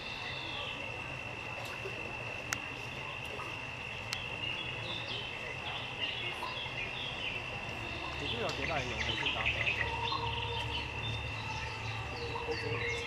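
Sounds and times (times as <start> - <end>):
bird chirps: 0.0 - 0.9, 2.7 - 13.0
insect trill: 0.0 - 13.0.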